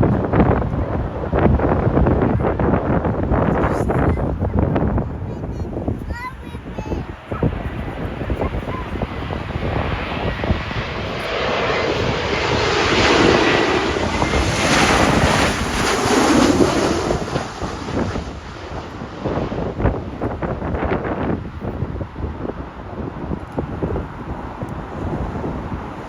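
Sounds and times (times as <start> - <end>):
jet airliner passing overhead: 0.0 - 26.0
wind buffeting microphone: 0.0 - 26.0.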